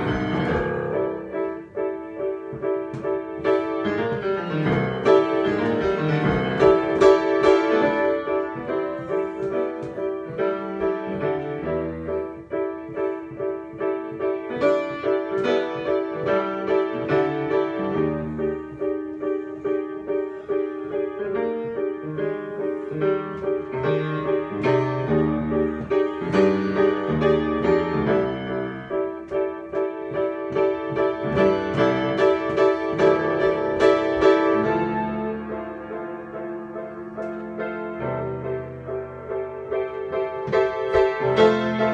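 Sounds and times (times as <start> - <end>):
solo piano improvisation: 0.0 - 41.9.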